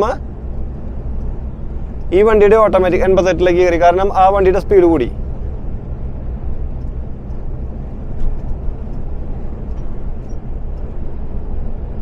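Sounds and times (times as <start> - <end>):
road and tyre noise: 0.0 - 12.0
truck diesel drone: 0.0 - 12.0.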